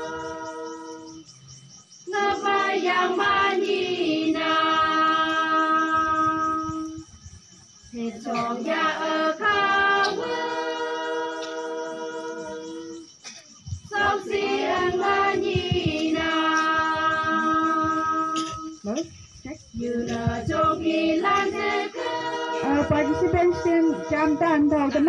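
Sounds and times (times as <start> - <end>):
women singing in unison: 0.0 - 1.3, 2.0 - 7.1, 7.9 - 13.2, 13.8 - 18.9, 19.6 - 25.0.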